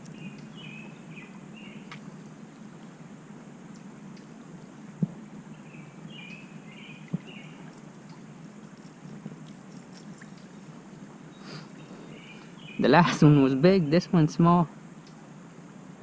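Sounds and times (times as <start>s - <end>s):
songbird chirping: 0.0s - 15.4s
low outdoor background: 0.0s - 16.0s.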